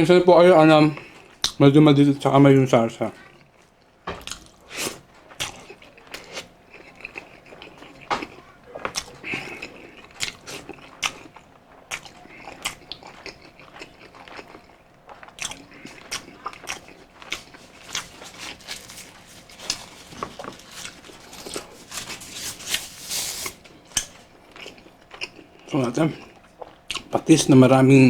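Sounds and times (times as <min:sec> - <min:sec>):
person chewing: 0:03.2 - 0:27.3.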